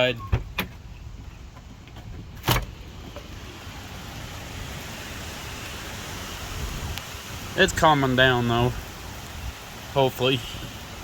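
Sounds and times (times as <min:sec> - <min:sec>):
wind and rain hissing: 0:00.0 - 0:11.0.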